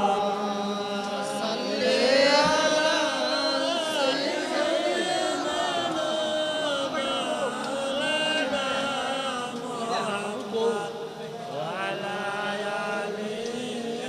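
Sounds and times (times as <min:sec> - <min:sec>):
voices singing devotional chant: 0:00.0 - 0:14.0.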